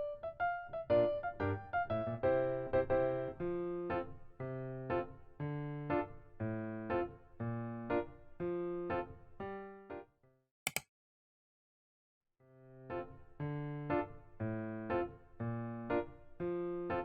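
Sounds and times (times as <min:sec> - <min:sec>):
electric piano playing light chords: 0:00.0 - 0:10.1, 0:12.5 - 0:17.0.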